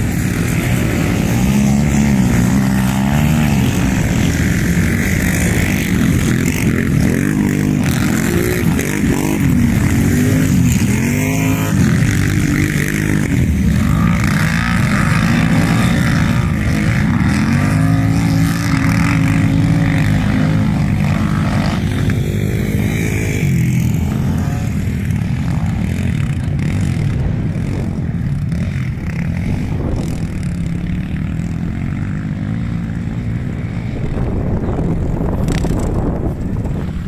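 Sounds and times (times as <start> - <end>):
quad bike engines revving: 0.0 - 37.0.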